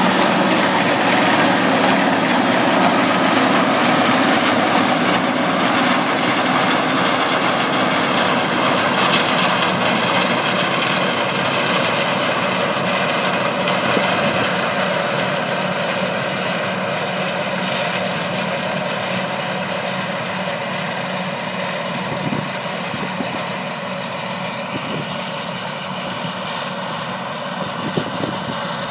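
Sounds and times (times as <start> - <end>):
diesel harvesting machinery running: 0.0 - 28.9.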